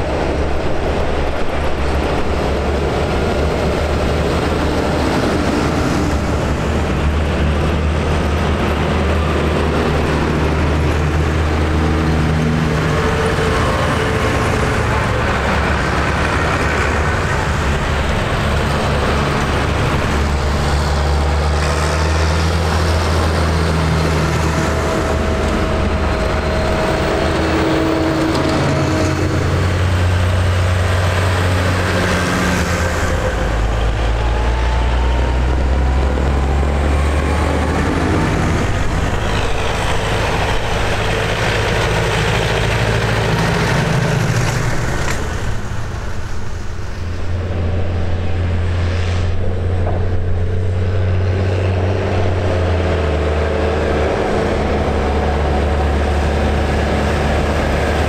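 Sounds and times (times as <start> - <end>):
tractors driving past: 0.0 - 58.0.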